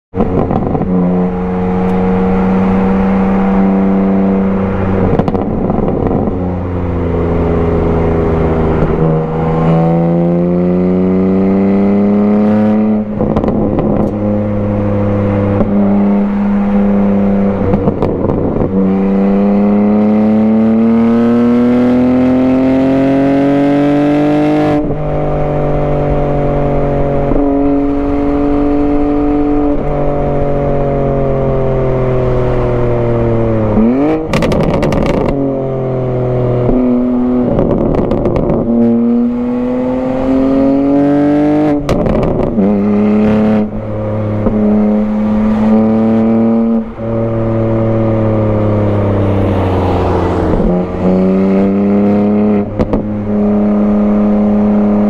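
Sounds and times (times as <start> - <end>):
car engine accelerating hard: 0.1 - 55.0.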